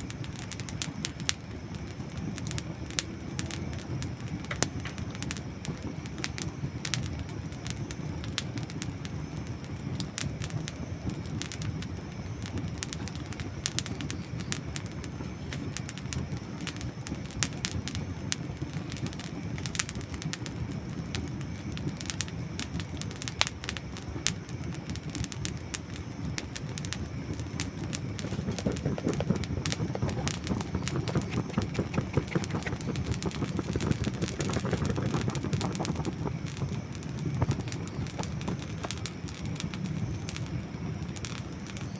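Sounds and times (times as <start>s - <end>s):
campfire crackling and popping: 0.0s - 41.9s
low rush of flame: 0.0s - 41.9s.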